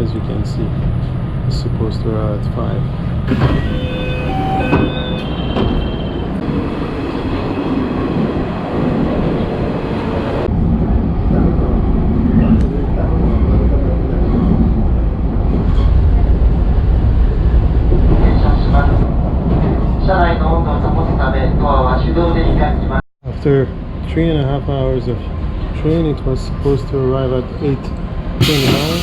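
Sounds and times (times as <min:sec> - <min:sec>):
train rumbling on rails: 0:00.0 - 0:23.0, 0:27.4 - 0:29.0.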